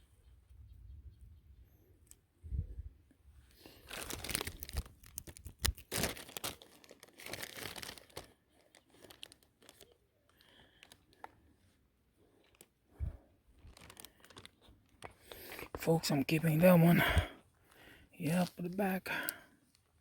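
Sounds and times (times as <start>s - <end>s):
rustling and crinkling handling: 3.4s - 20.0s.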